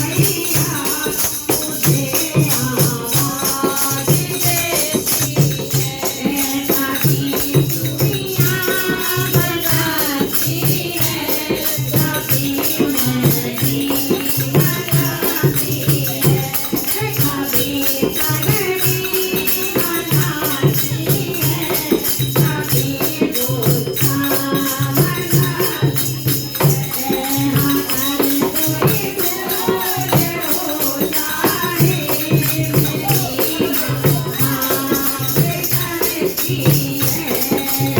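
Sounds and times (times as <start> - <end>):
shaken percussion rhythm: 0.0 - 37.9.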